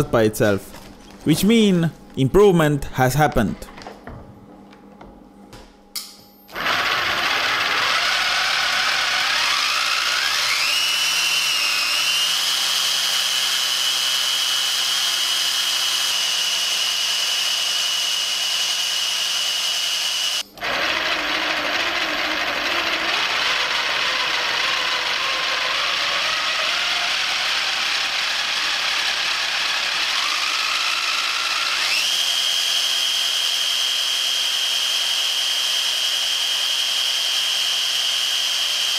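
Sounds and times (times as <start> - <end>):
electric motor whine: 6.5 - 38.9.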